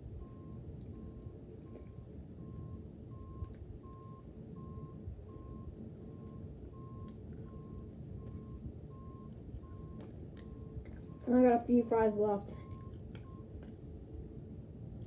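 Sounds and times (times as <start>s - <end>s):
vehicle warning beeper: 0.1s - 13.6s.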